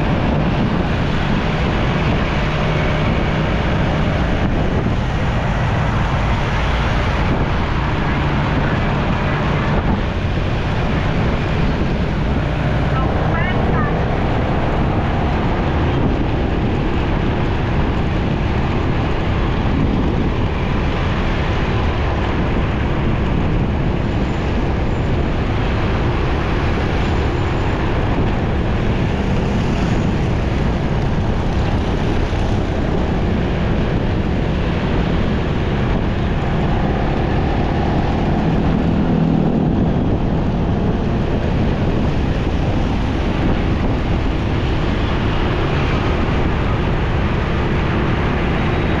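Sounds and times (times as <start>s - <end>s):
motorcycle engine: 0.0s - 49.0s
passing vehicles: 0.0s - 49.0s
road and wind noise: 0.0s - 49.0s.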